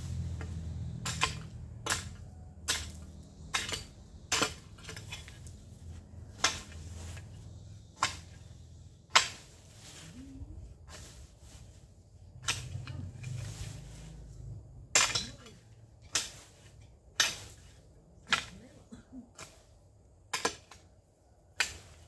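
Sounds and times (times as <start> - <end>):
garden tool striking dry ground: 0.0 - 22.0.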